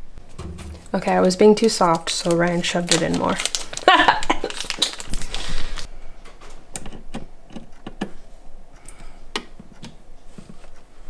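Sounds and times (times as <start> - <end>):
hands clicking computer parts: 0.3 - 10.9.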